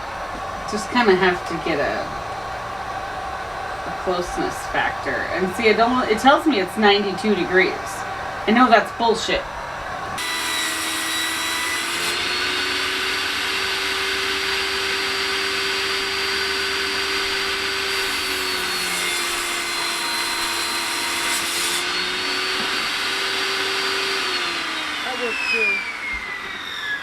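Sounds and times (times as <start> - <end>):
heat gun fan whine: 0.0 - 27.0.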